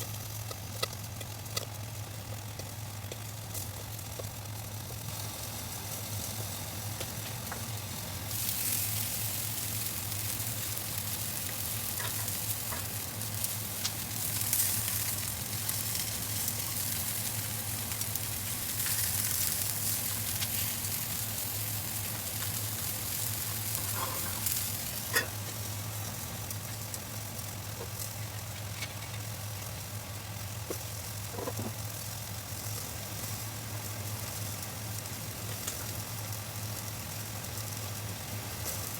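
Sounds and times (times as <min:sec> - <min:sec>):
fish sizzling in a pan: 0:00.0 - 0:38.9
kitchen fan hum: 0:00.0 - 0:38.9.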